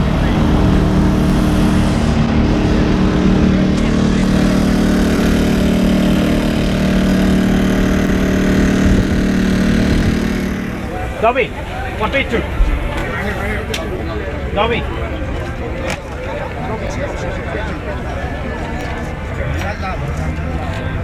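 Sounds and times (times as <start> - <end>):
engine humming steadily: 0.0 - 21.0.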